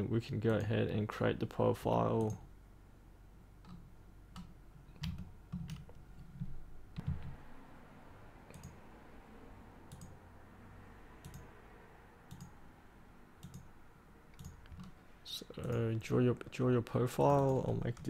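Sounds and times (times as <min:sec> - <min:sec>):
faint background hum: 0:00.0 - 0:18.0.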